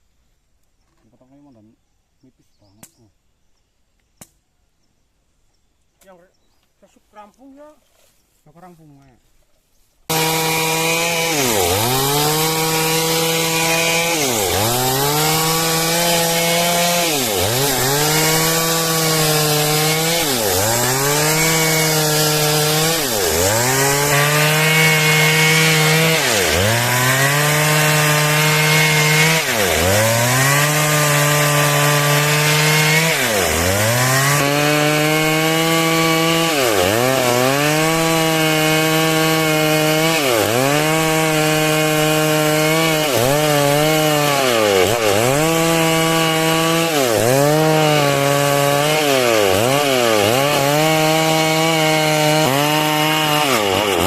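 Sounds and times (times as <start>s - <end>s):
chainsaw cutting wood: 10.0s - 54.0s.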